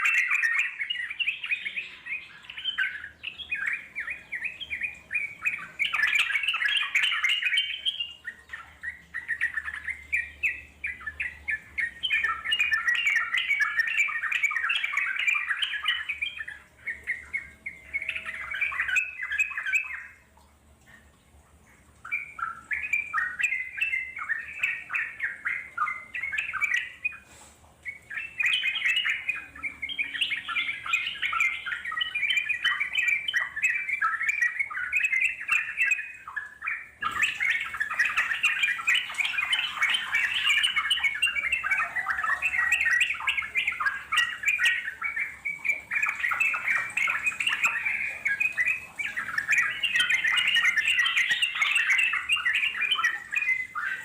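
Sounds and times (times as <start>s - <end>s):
bulbul chattering song: 0.0s - 21.0s, 22.0s - 54.0s.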